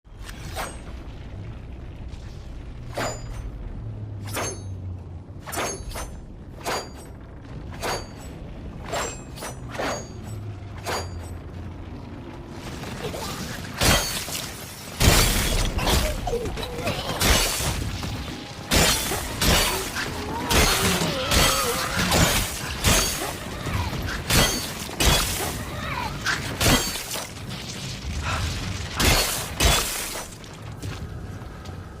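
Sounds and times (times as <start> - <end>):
blade clashes and impacts: 0.1 - 1.3, 2.8 - 11.6, 12.8 - 31.0.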